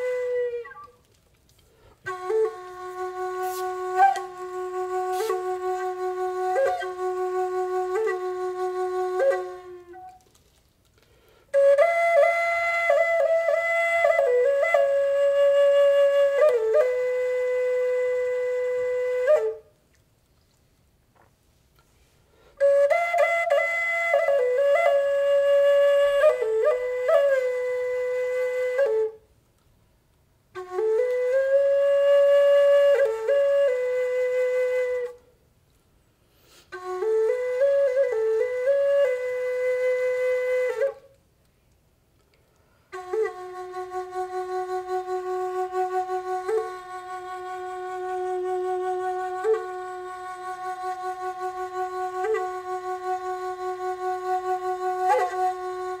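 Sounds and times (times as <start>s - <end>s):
bamboo flute playing: 0.0s - 10.6s, 11.2s - 20.0s, 22.0s - 29.4s, 30.5s - 35.5s, 36.5s - 41.4s, 42.6s - 56.0s.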